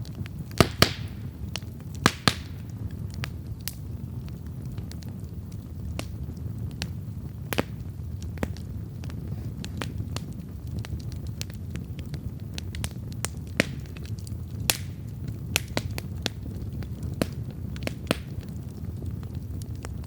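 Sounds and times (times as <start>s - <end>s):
campfire low rumble: 0.0s - 20.0s
sharp crackles and pops: 0.0s - 20.0s.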